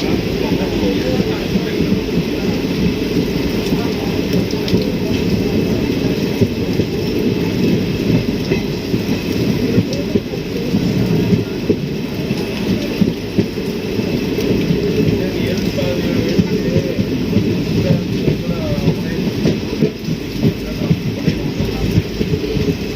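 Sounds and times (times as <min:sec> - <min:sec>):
heavy rain: 0:00.0 - 0:22.9
train rumbling: 0:00.0 - 0:22.9.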